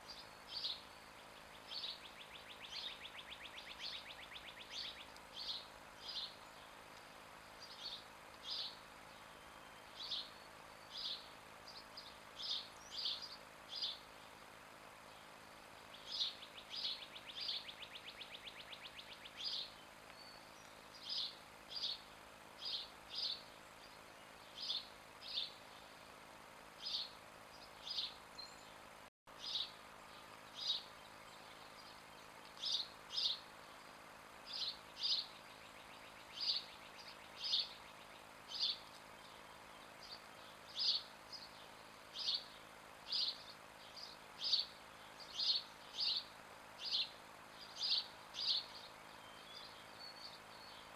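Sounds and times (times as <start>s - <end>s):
outdoor background noise: 0.0s - 50.9s.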